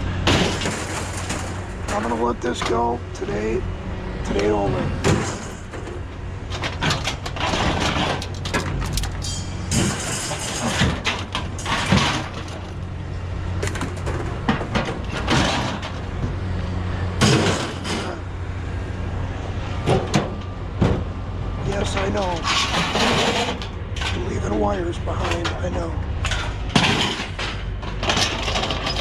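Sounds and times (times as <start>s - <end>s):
scrap metal clanking: 0.2s - 3.4s, 4.3s - 12.9s, 13.5s - 16.4s, 17.2s - 18.3s, 19.8s - 29.0s.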